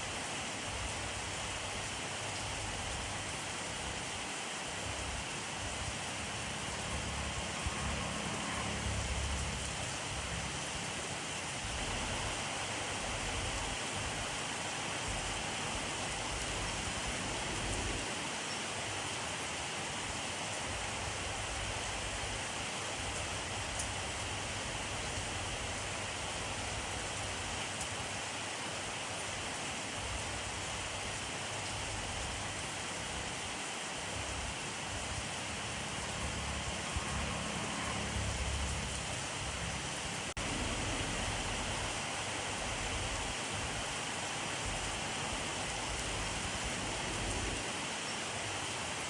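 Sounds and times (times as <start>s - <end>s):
steady rainfall: 0.0s - 49.0s.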